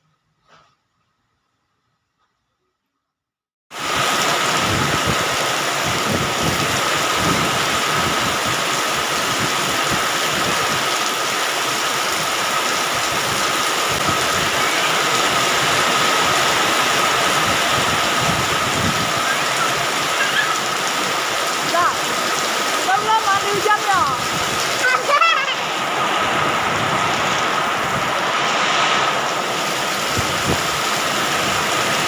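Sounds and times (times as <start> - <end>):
heavy rain falling: 3.7 - 32.0.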